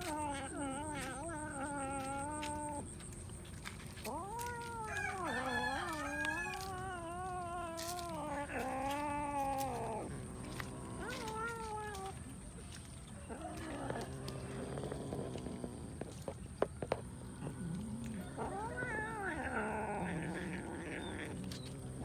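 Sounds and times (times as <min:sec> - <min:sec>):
cats yowling: 0:00.0 - 0:16.3, 0:17.3 - 0:22.0.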